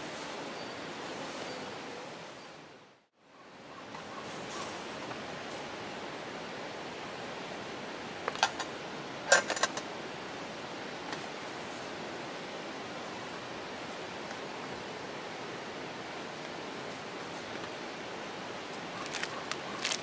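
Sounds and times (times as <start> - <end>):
steady hiss: 4.0 - 20.0.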